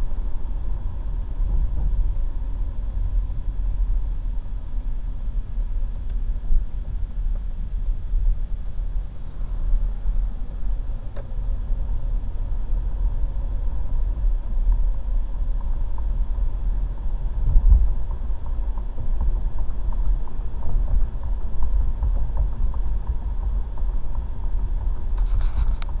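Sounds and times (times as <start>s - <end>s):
car driving on road: 0.0s - 26.0s.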